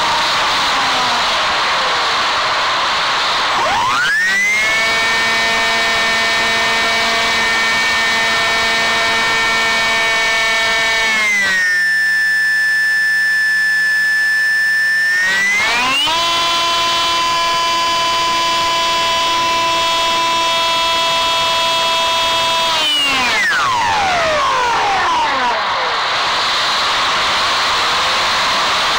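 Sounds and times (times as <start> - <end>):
electric model plane motor whining: 0.0 - 28.9.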